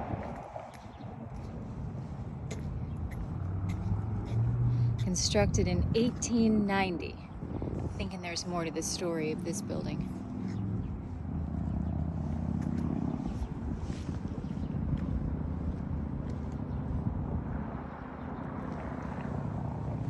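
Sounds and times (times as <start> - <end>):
motor vehicle rumbling past: 0.0 - 20.0.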